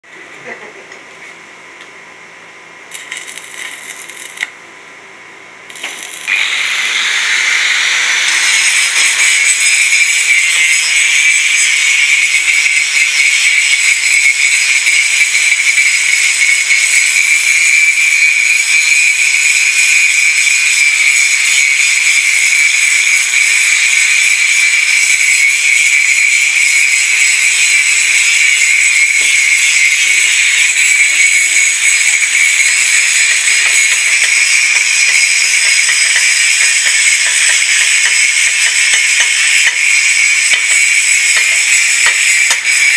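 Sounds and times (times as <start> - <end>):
electrode scratching metal plate: 2.9 - 4.5, 5.7 - 42.9
welding arc crackling: 2.9 - 4.6, 5.7 - 42.9.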